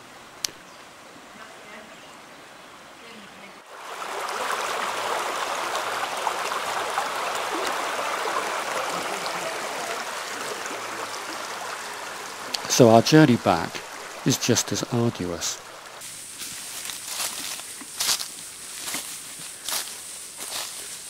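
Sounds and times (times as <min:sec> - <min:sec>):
river water rushing: 0:03.6 - 0:21.0.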